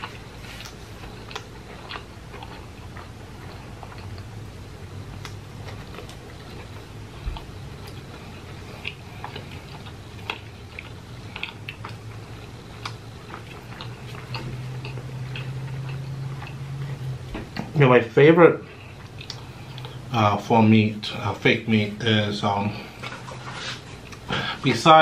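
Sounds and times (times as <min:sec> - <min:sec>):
chewing with wet mouth clicks: 0:00.0 - 0:17.3, 0:18.6 - 0:20.2, 0:22.9 - 0:24.3
steady low hum: 0:00.0 - 0:25.0.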